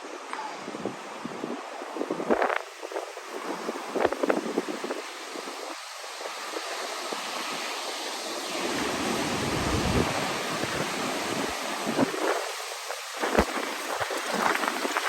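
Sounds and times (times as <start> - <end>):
wind rushing through trees: 0.0 - 15.0
wind buffeting microphone: 0.1 - 15.0.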